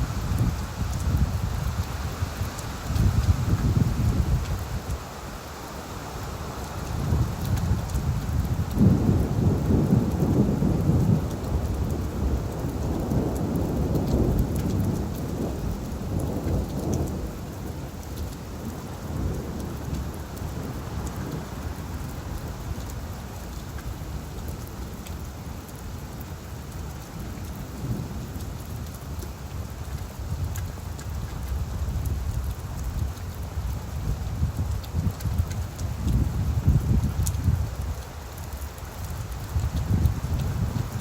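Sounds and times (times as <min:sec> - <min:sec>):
low roll of thunder: 0:00.0 - 0:04.8, 0:06.8 - 0:23.1, 0:26.5 - 0:38.0, 0:38.9 - 0:41.0
rain falling on leaves: 0:00.0 - 0:41.0.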